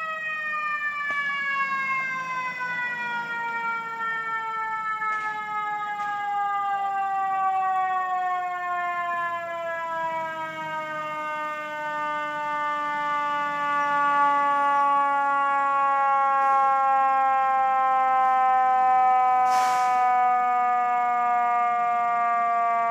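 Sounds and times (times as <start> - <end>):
fire engine siren falling tone: 0.0 - 22.9.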